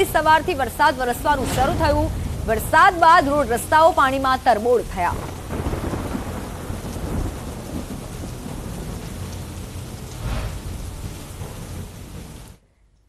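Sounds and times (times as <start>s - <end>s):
heavy rain pouring: 0.0s - 12.6s
deep rumble: 1.1s - 4.2s, 5.1s - 12.6s.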